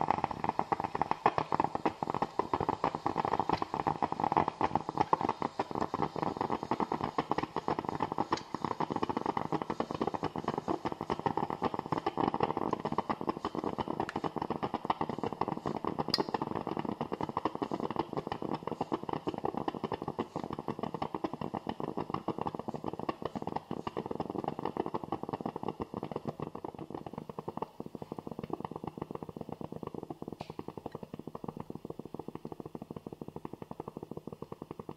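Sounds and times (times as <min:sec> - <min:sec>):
coffee maker gurgling: 0:00.0 - 0:34.9.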